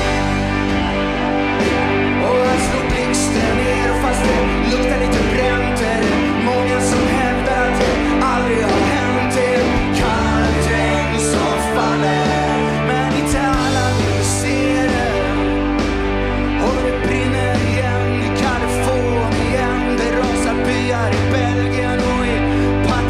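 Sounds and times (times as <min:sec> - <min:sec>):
backing voices: 0:00.0 - 0:23.0
electric guitars: 0:00.0 - 0:23.0
keyboard: 0:00.0 - 0:23.0
steady drum beat: 0:00.0 - 0:23.0
man singing lead: 0:01.8 - 0:23.0.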